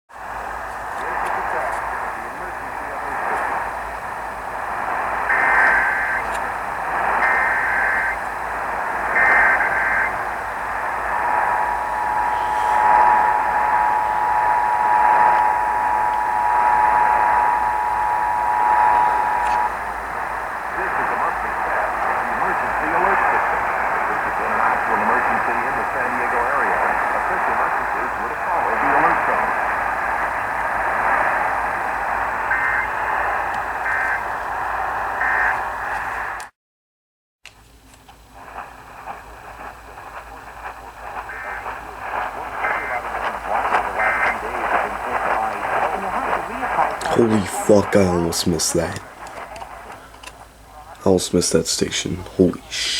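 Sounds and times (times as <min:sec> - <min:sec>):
radio static hiss: 0:00.1 - 0:36.6, 0:37.8 - 0:52.9
two-tone data bursts: 0:00.3 - 0:36.4, 0:39.6 - 0:49.8.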